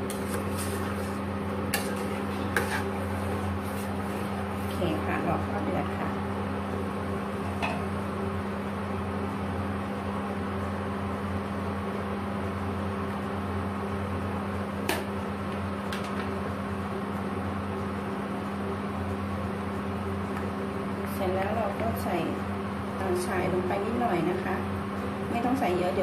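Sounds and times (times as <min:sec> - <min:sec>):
electric cooktop hum: 0:00.0 - 0:26.0.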